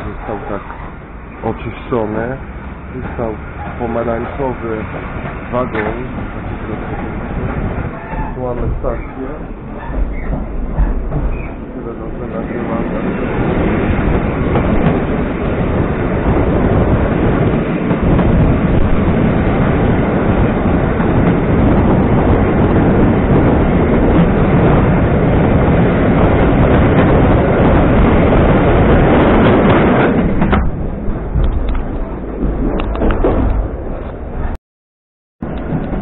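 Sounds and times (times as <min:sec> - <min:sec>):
train wheels rumbling on rail: 0:00.0 - 0:34.6, 0:35.4 - 0:36.0.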